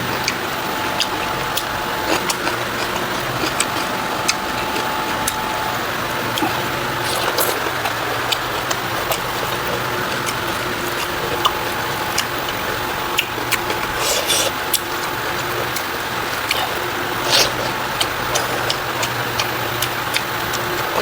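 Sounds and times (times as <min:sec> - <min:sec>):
background hum: 0:00.0 - 0:21.0
chewing food crunches: 0:00.0 - 0:21.0.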